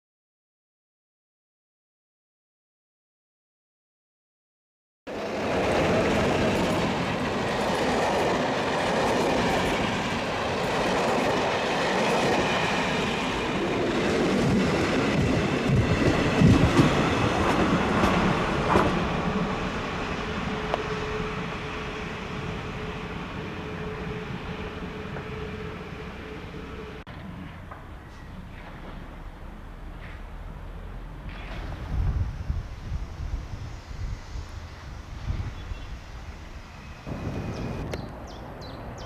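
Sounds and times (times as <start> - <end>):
train wheels rumbling on rails: 5.1 - 39.0.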